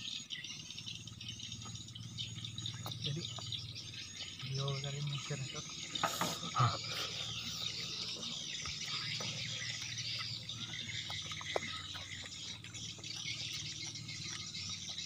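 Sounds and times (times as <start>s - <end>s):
insects chirring: 0.0s - 15.0s
people eating with hands: 0.0s - 15.0s.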